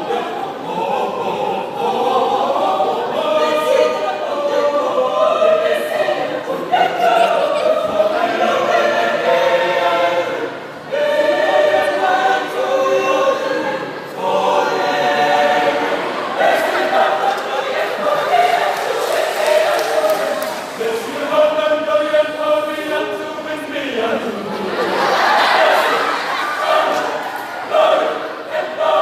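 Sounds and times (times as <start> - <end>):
choir singing in harmony: 0.0 - 29.0.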